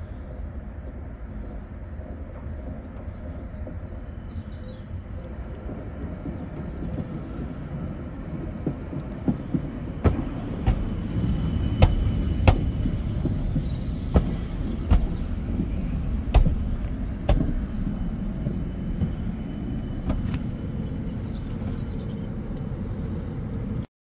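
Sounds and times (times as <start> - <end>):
tram rumbling past: 0.0 - 23.9
wheels clacking on track: 2.2 - 23.9.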